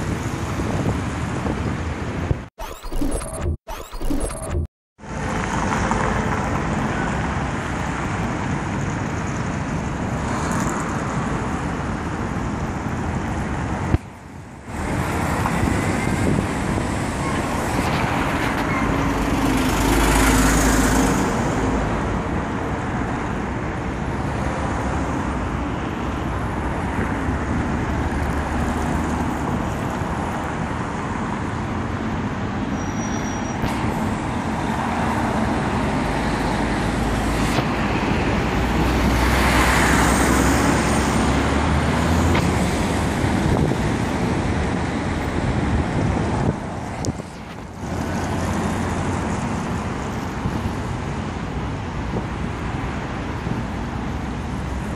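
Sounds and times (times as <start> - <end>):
road traffic rumble: 5.0 - 54.9.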